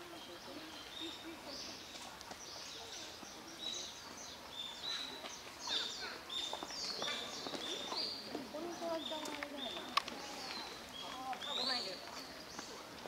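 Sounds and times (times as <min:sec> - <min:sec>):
faint distant voices: 0:00.0 - 0:13.0
small birds chirping: 0:00.0 - 0:13.0.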